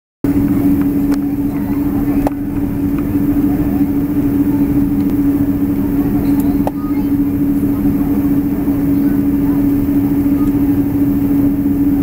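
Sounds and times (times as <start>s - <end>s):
jet engine cabin drone: 0.2s - 12.0s.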